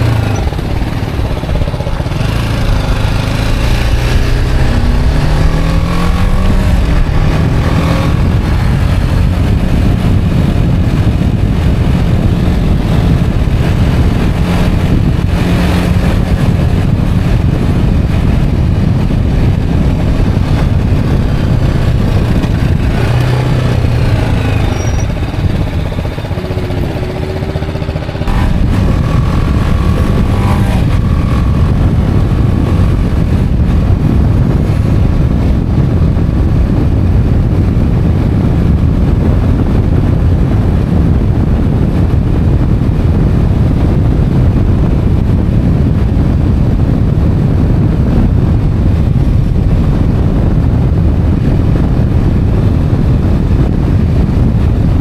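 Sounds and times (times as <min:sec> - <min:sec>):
motorcycle engine: 0:00.0 - 0:55.0
wind rushing on microphone: 0:00.0 - 0:55.0.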